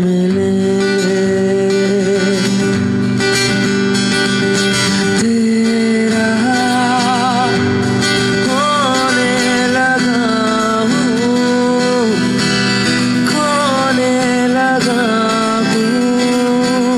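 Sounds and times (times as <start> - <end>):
acoustic guitar: 0.0 - 16.9
man singing with vibrato: 0.0 - 16.9.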